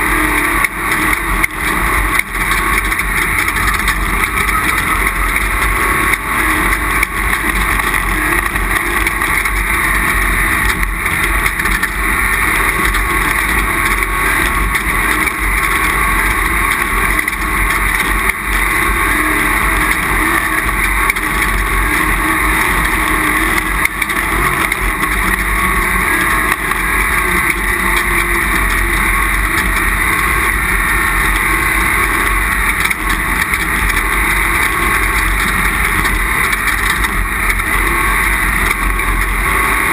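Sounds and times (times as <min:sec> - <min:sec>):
vehicle engine roaring: 0:00.0 - 0:39.9.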